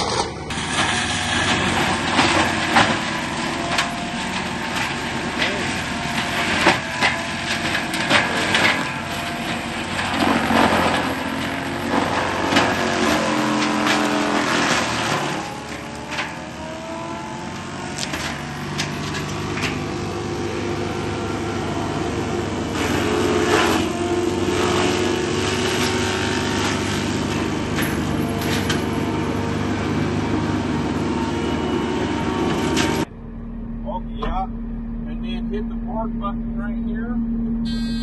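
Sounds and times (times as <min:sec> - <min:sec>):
diesel engine and mulcher rotor: 0:00.0 - 0:38.0.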